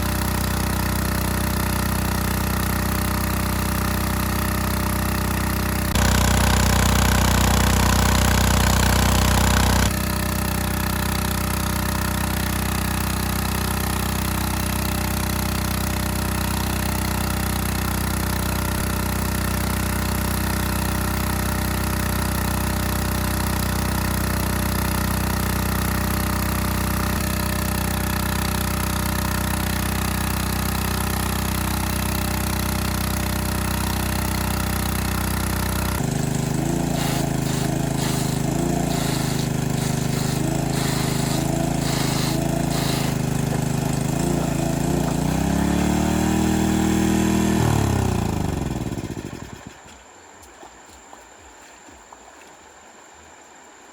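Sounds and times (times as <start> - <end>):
small engine water pump running: 0.0 - 51.4.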